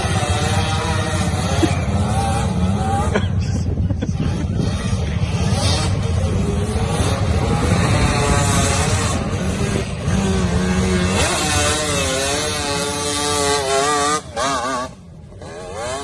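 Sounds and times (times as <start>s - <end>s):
quad bike engine revving: 0.0s - 16.0s.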